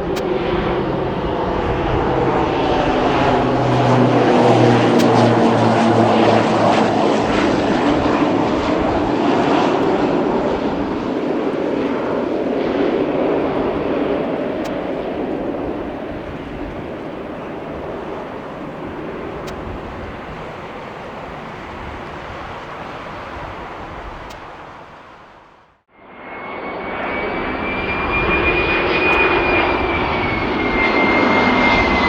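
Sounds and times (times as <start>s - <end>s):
airliner engine roar: 0.0s - 32.0s.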